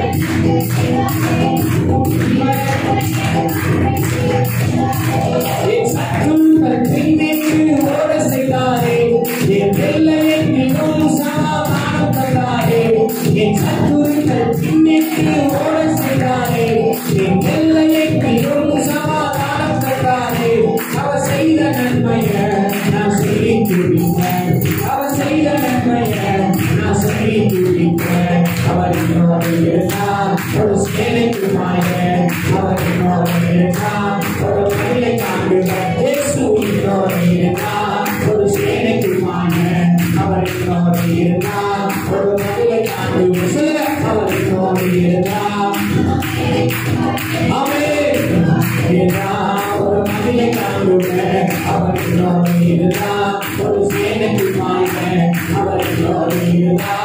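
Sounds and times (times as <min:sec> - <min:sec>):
group singing worship song: 0:00.0 - 0:57.0
man singing into microphone: 0:00.0 - 0:57.0
quick percussion beat: 0:00.0 - 0:57.0.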